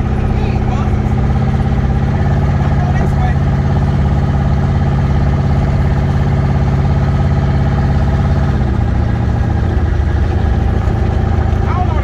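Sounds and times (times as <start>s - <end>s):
pickup engine running: 0.0s - 12.0s.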